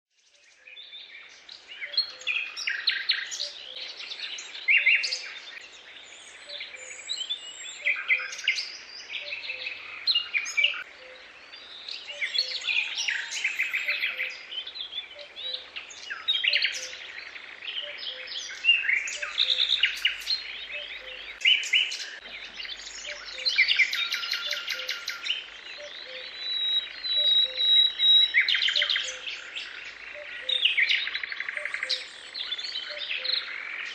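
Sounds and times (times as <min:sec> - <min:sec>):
birds singing and chirping: 0:00.2 - 0:33.9.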